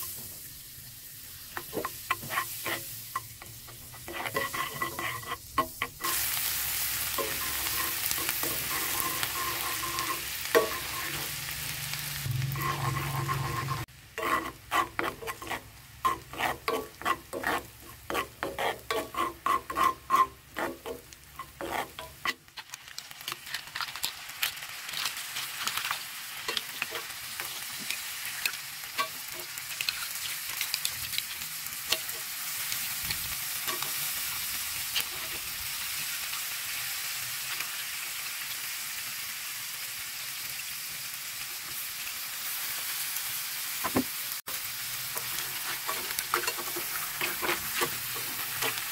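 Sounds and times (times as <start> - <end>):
butter sizzling in a pan: 0.0 - 48.9.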